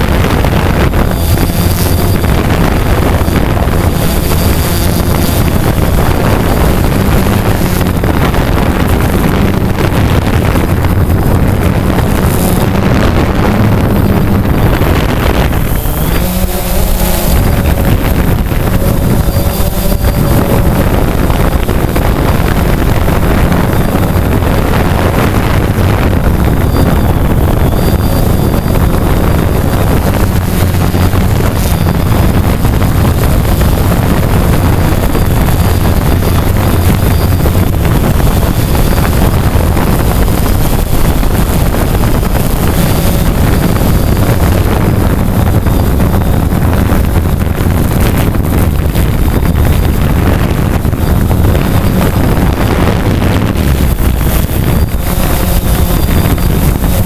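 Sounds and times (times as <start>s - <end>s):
drone motors and propellers: 0.0s - 57.0s
wind on microphone: 0.0s - 57.0s.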